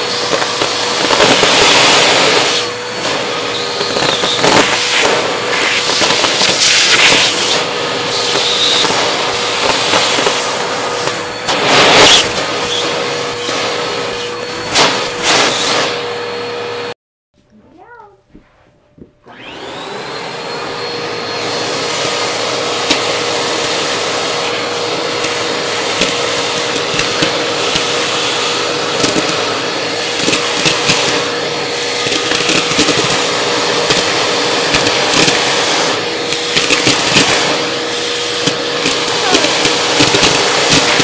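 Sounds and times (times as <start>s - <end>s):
vacuum cleaner motor: 0.0s - 17.0s, 19.2s - 41.0s.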